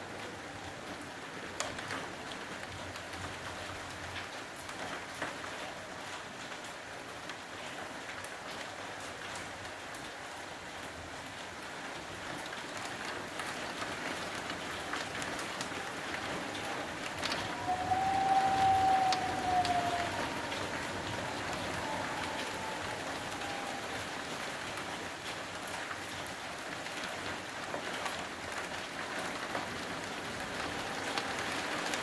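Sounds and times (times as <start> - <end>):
heavy rain: 0.0 - 32.0
raindrops ticking close by: 0.0 - 32.0.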